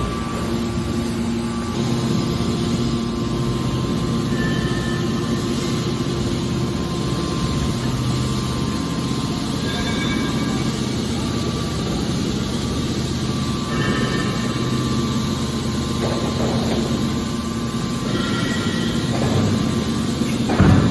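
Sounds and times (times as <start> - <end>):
metal baler shear humming: 0.0 - 20.9.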